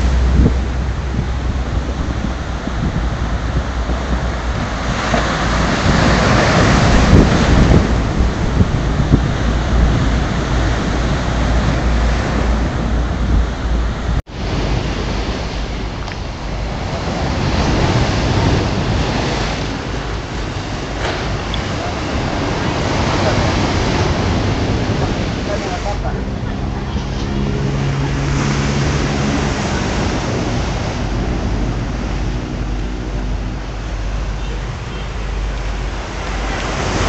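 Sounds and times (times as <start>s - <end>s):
sea surf breaking on shore: 0.0s - 37.0s
wind buffeting microphone: 0.0s - 37.0s.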